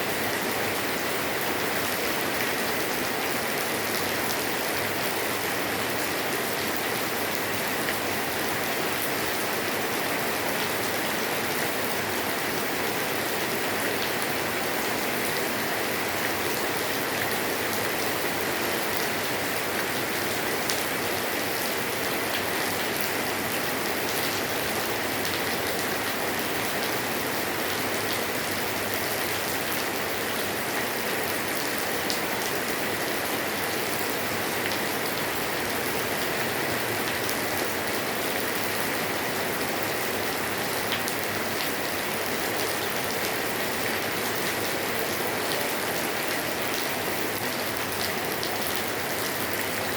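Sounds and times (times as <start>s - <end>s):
light rain on a roof: 0.0s - 49.9s.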